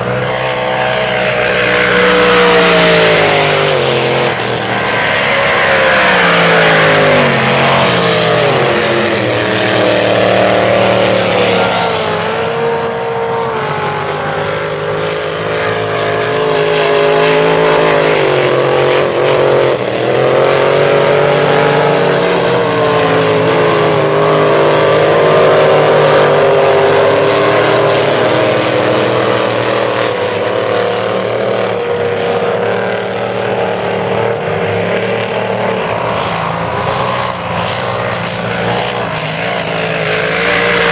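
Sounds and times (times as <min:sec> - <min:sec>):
race boat engines passing: 0:00.0 - 0:40.9.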